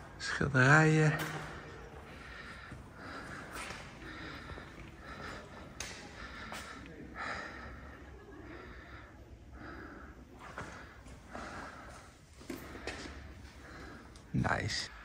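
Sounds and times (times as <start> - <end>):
man breathing hard: 1.2 - 15.0.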